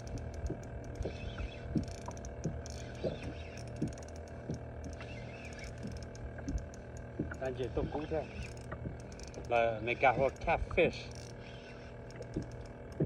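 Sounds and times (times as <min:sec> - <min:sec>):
fishing reel clicks and knocks: 0:00.0 - 0:13.0
steady low hum: 0:00.0 - 0:13.0.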